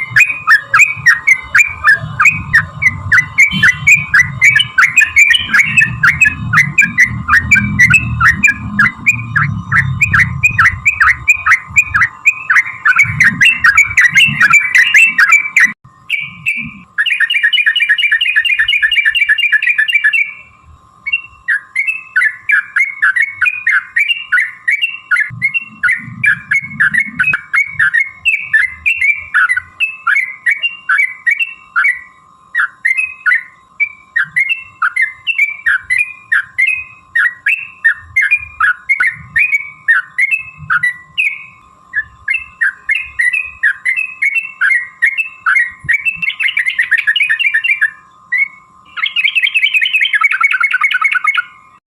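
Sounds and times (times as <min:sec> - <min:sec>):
bird singing: 0:00.0 - 0:51.8
faint steady hum: 0:00.0 - 0:51.8.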